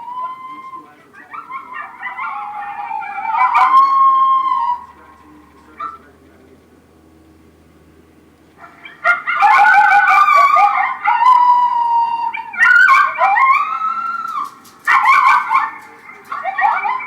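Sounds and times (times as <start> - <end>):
electronic canine call yips and howls: 0.0 - 6.1, 8.6 - 17.0.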